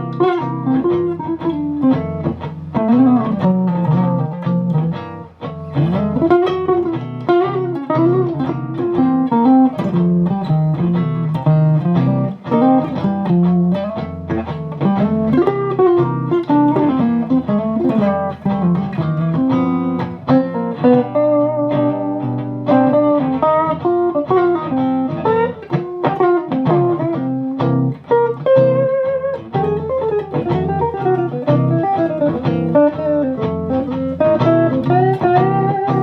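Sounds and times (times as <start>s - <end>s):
electric guitar lead with string bends: 0.0s - 36.0s.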